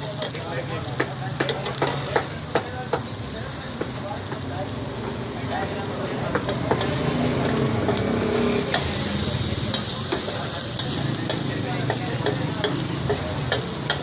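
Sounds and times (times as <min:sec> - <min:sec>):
meat sizzling on griddle: 0:00.0 - 0:14.0.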